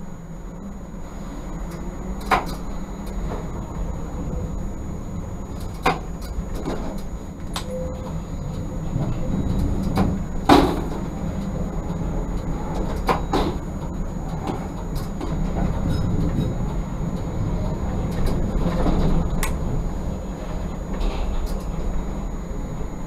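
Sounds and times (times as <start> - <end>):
tram rumbling on track: 0.0 - 23.0
wheels clacking over rail joints: 1.5 - 23.0.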